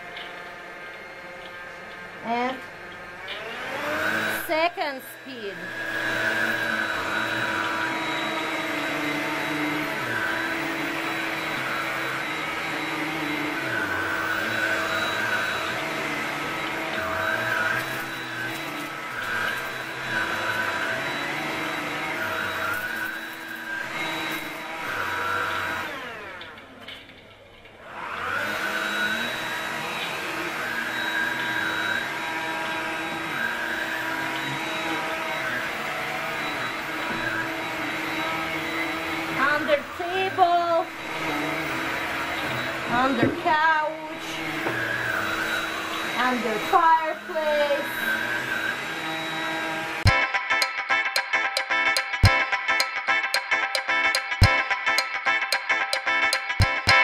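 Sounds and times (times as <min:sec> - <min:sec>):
handstick vacuum cleaner running: 0:00.0 - 0:27.0, 0:27.7 - 0:57.0.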